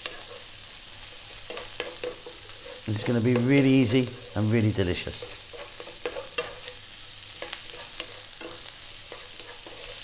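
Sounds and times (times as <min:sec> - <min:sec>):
vegetables sizzling in oil: 0:00.0 - 0:10.0
wooden spoon scraping a pan: 0:00.0 - 0:10.0.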